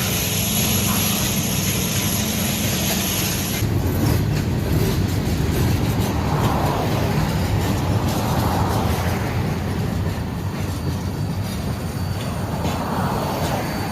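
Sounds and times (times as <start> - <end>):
train rumbling past on rails: 0.0 - 13.9.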